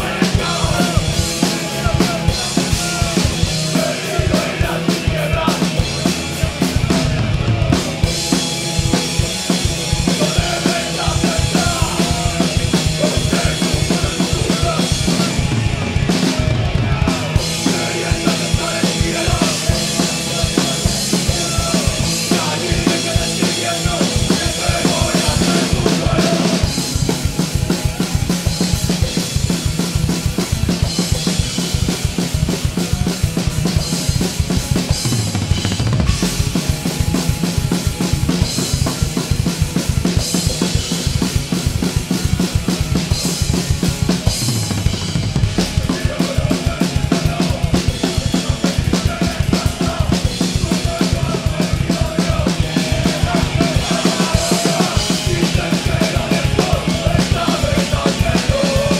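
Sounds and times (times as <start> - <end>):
drum kit played hard: 0.0 - 58.9
live rock band: 0.0 - 58.9.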